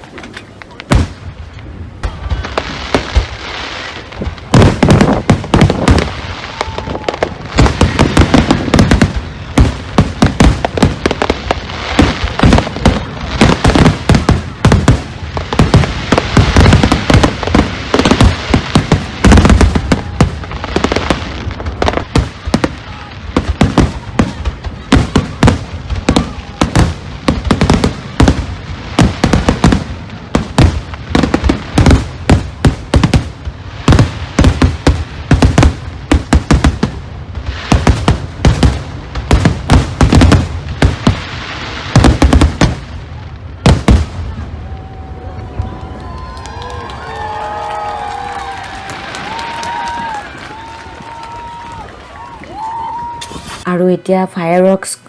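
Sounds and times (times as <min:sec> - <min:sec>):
fireworks bangs and crackles: 0:00.0 - 0:53.7.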